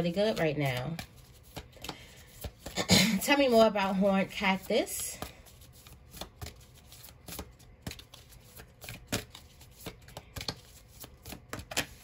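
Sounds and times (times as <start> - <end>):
cards being shuffled: 0.0 - 2.8, 4.5 - 12.0.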